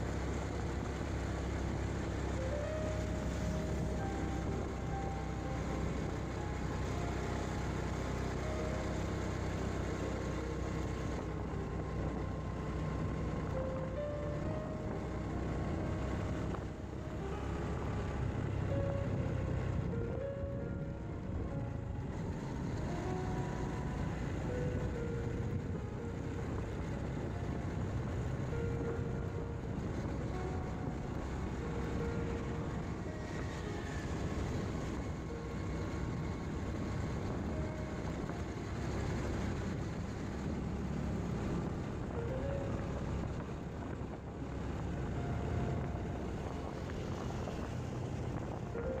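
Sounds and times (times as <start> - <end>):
motorcycle engine: 0.0 - 49.0
wind rumble on microphone: 8.0 - 49.0.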